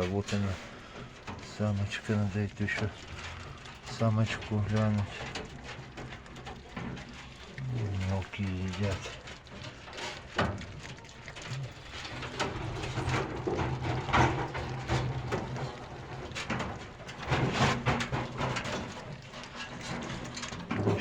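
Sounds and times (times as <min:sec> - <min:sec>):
animals crunching feed: 0:00.0 - 0:21.0.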